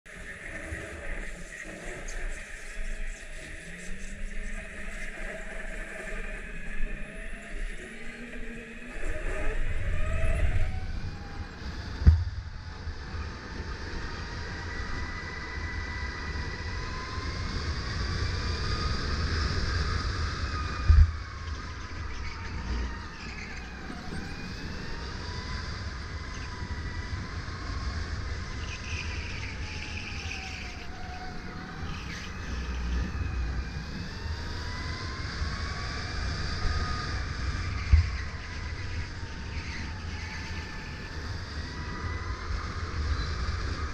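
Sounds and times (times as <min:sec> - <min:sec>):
electric kart motor whine: 0:00.1 - 0:43.9.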